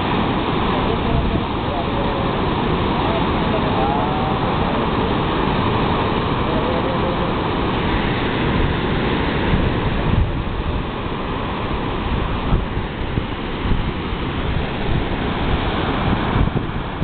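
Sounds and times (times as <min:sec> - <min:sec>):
ocean surf roar: 0:00.0 - 0:17.0
wind buffeting microphone: 0:00.0 - 0:17.0.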